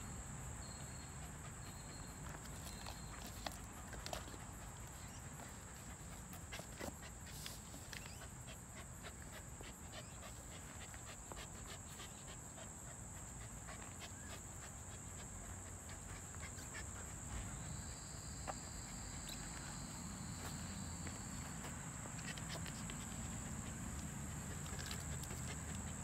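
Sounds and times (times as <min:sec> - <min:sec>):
lower insect tone: 0:00.0 - 0:26.0.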